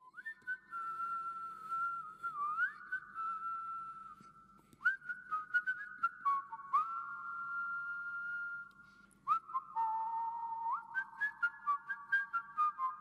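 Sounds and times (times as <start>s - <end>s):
person whistling a tune: 0.0s - 13.0s.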